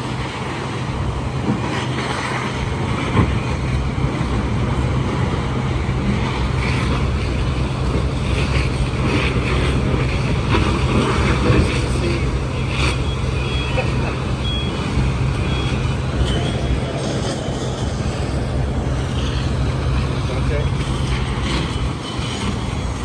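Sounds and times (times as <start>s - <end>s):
broad rushing noise: 0.0s - 23.0s
low engine hum: 0.0s - 23.0s.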